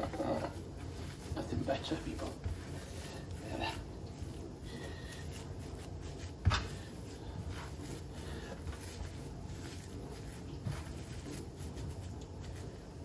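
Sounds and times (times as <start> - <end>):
hands kneading raw mince: 0.0 - 13.0.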